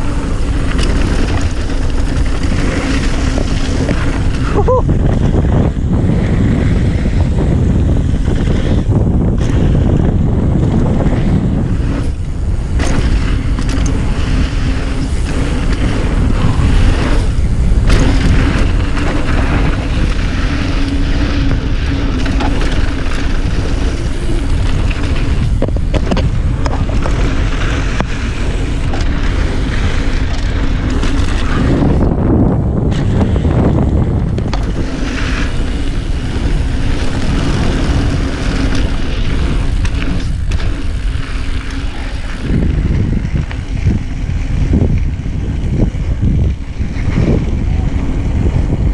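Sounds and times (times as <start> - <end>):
bike knocks and rattles: 0.0 - 48.9
bike tyres rolling on dirt: 0.0 - 48.9
wind rushing over microphone: 0.0 - 48.9.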